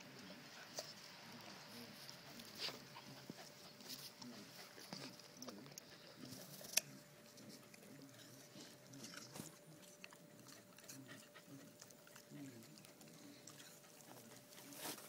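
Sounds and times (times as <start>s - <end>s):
dog chewing and licking: 1.5s - 15.0s.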